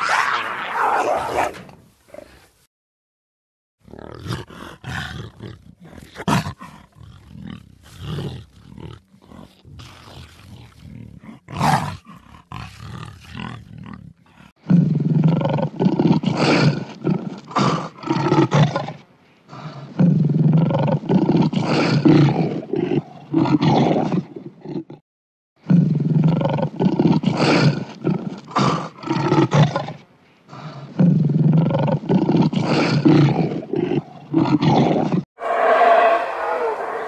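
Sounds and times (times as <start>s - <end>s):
lynx growling and snarling: 0.0s - 2.4s, 3.8s - 25.0s, 25.6s - 37.0s.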